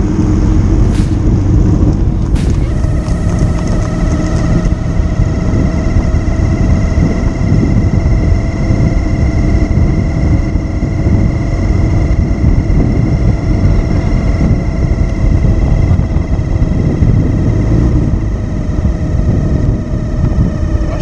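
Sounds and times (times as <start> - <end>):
motorcycle engine and road rumble: 0.0 - 21.0
thin whine: 0.0 - 21.0.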